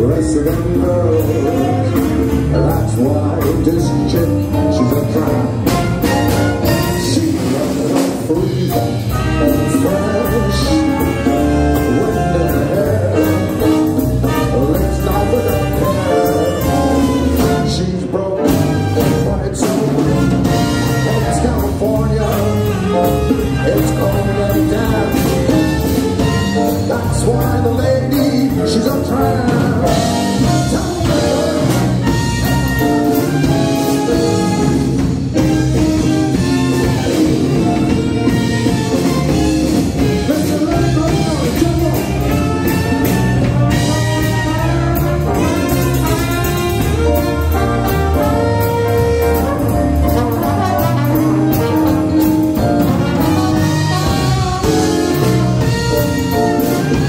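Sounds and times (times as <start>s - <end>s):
big band swing jazz: 0.0s - 57.0s
drum kit: 0.0s - 57.0s
trumpet: 0.0s - 57.0s.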